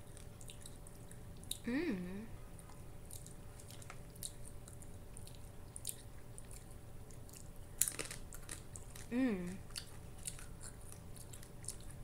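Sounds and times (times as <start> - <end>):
chewing crunchy chips: 0.0 - 1.7, 2.5 - 12.0.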